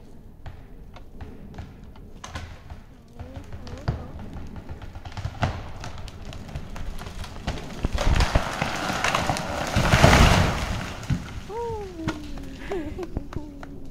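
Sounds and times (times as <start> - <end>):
tree wood cracking: 1.0 - 13.9
tree crashing down: 2.2 - 13.4.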